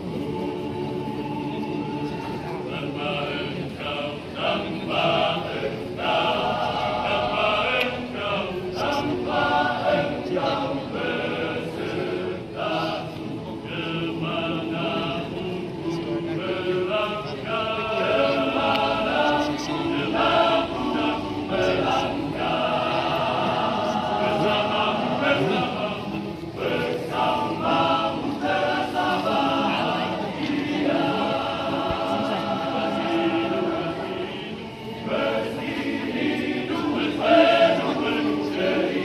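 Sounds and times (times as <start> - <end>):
choir singing a cappella: 0.0 - 39.0.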